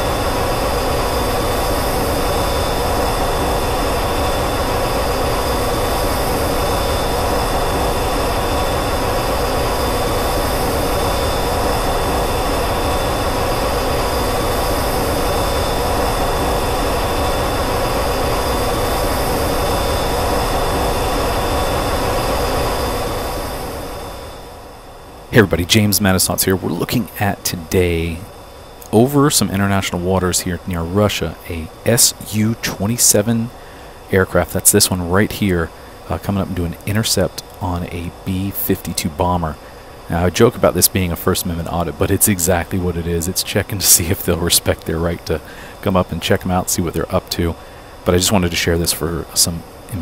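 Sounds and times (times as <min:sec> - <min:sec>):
high whine: 0:00.0 - 0:50.0
jet engines droning in flight: 0:00.0 - 0:50.0.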